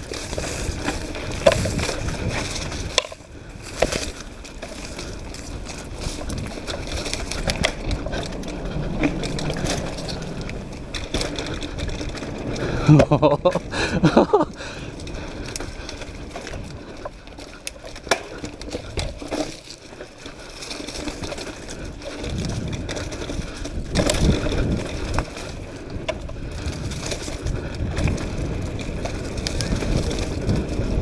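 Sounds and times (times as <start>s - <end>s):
bike rattling over bumps: 0.0s - 31.0s
bike tyres crunching over dirt: 0.0s - 31.0s.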